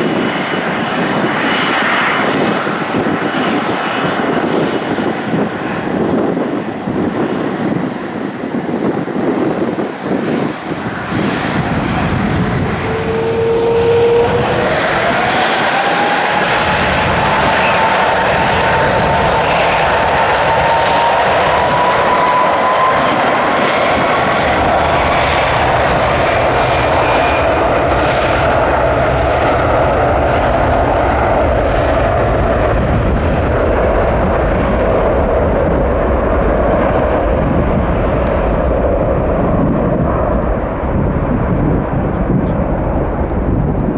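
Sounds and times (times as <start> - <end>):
jet engine whine: 0.0 - 43.9
jet engines roaring: 0.0 - 43.9.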